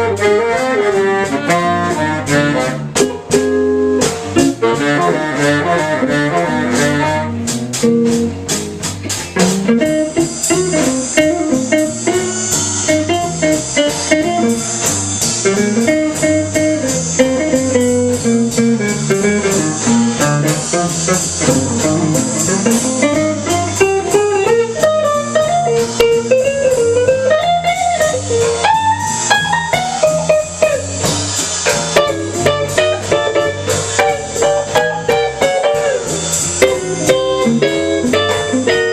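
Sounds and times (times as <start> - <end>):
electric guitar solo: 0.0 - 38.9
jazz drums: 0.0 - 38.9
walking bass: 0.0 - 38.9.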